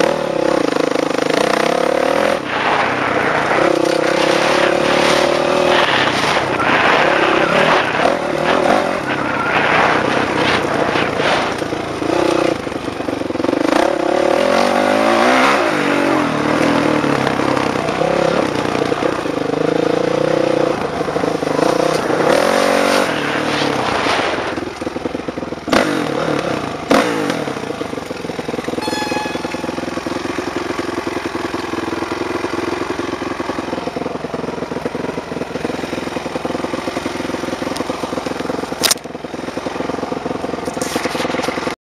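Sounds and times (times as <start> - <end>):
dirt bike engine revving: 0.0 - 41.8.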